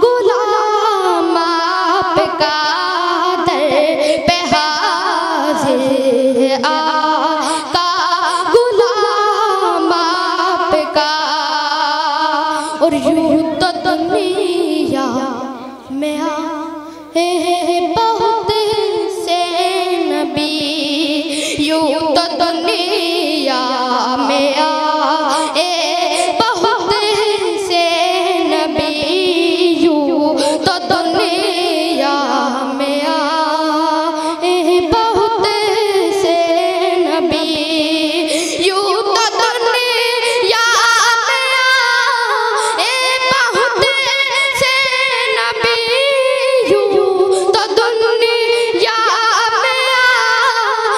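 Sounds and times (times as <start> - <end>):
boy singing unaccompanied: 0.0 - 50.9.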